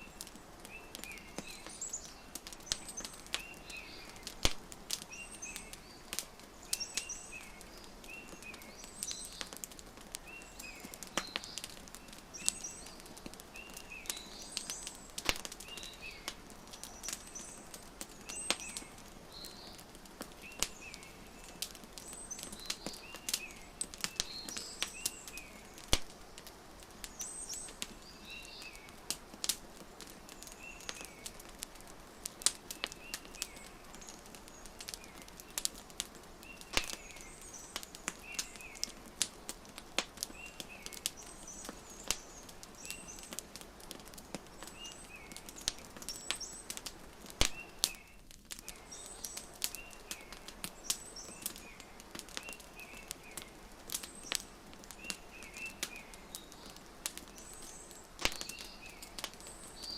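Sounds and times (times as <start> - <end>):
small birds chirping: 0.0 - 59.9
wood fire crackling and popping: 0.0 - 59.9.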